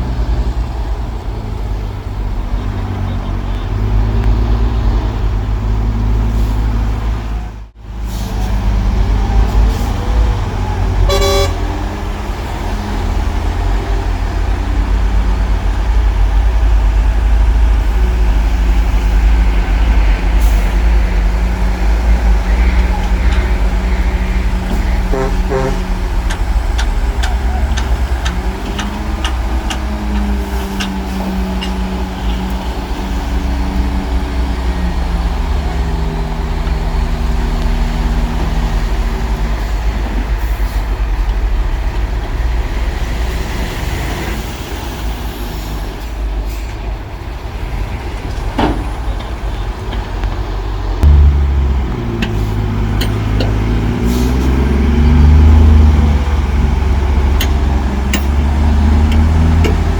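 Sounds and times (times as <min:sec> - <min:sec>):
diesel earthmoving engine: 0:00.0 - 0:59.9.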